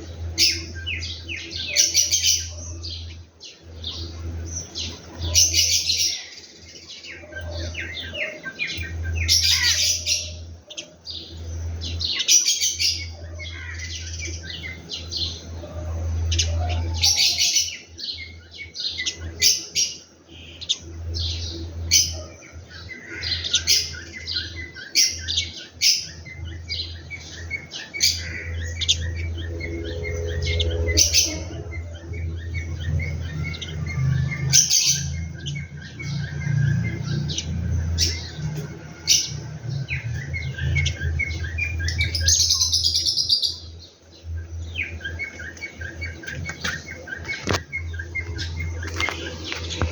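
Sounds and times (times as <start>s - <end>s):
birds chirping: 0.0s - 49.9s
steady low hum: 0.0s - 49.9s.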